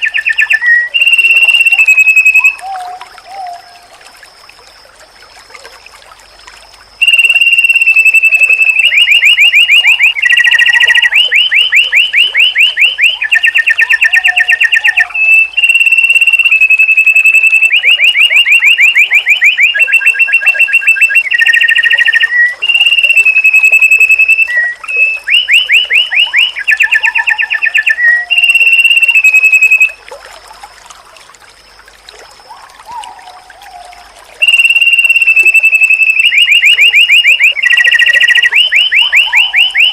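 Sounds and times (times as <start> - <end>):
bird whistles and trills: 0.0 - 4.0, 7.0 - 30.0, 32.3 - 39.9
faint steady high tone: 0.0 - 39.9.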